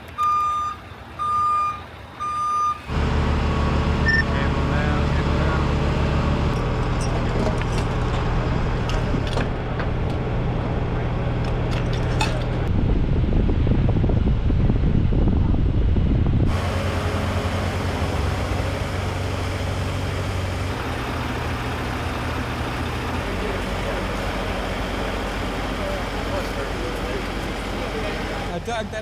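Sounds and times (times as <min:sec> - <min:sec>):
heavy vehicle engine running: 0:02.9 - 0:29.0.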